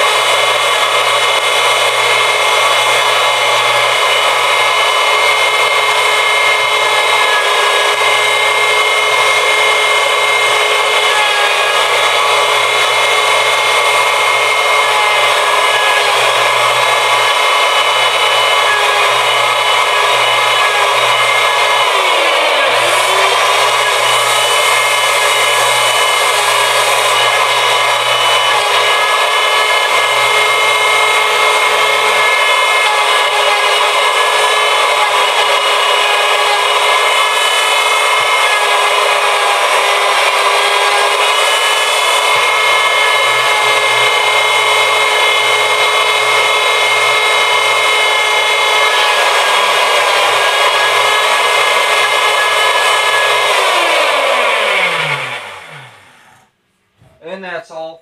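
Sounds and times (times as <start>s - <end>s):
router motor whine: 0.0s - 56.6s.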